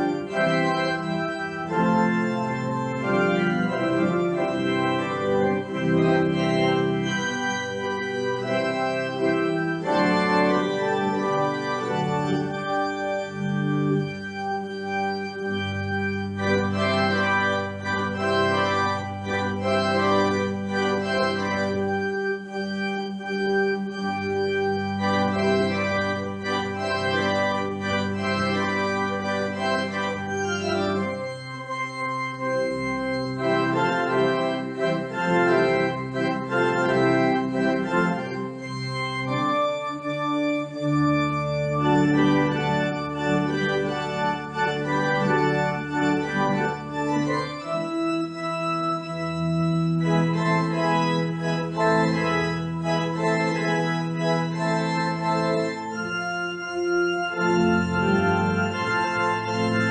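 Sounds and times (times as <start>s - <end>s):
pipe organ chords: 0.0s - 59.9s.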